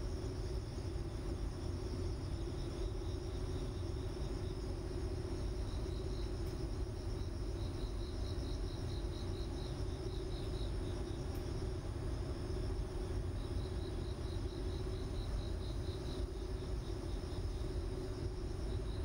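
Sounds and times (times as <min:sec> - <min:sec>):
crickets chirping: 0:00.0 - 0:19.0
low background rumble: 0:00.0 - 0:19.0.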